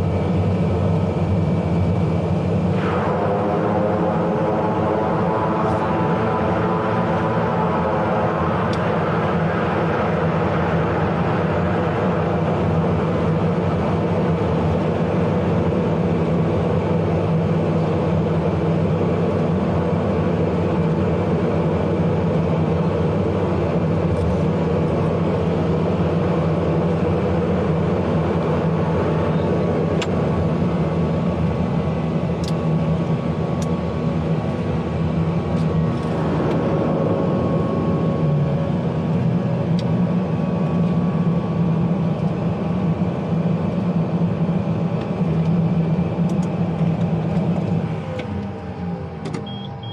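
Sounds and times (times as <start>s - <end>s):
propeller engines droning: 0.0s - 49.9s.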